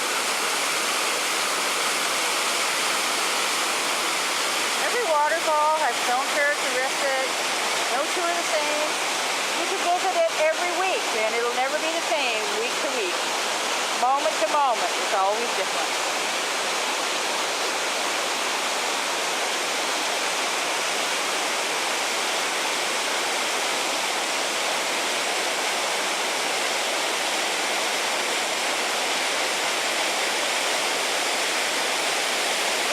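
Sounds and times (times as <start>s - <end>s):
small waterfall rushing: 0.0s - 32.9s.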